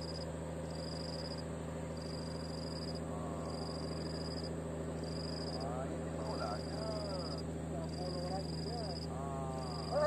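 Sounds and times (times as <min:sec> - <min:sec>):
insect high-pitched trills: 0:00.0 - 0:10.0
steady low hum: 0:00.0 - 0:10.0.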